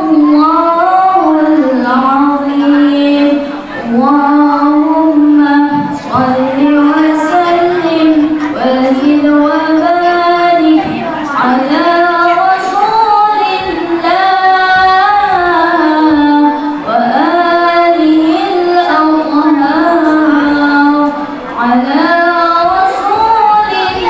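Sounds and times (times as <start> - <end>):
woman reciting melodically: 0.0 - 24.0.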